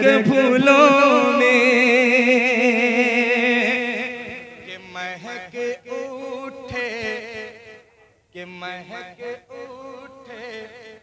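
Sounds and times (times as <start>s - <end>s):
man singing into microphone: 0.0s - 11.0s.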